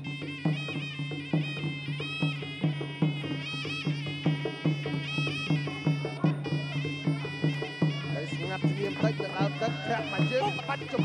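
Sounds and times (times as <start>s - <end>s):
reed oboe melody: 0.0s - 11.0s
steady drum beat: 0.0s - 11.0s.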